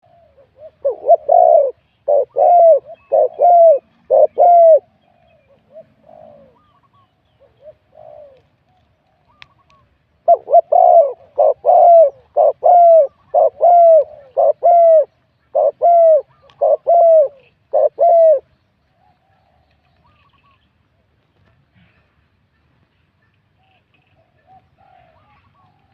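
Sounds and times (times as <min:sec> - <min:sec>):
dove cooing: 0:00.0 - 0:20.6, 0:23.6 - 0:25.9.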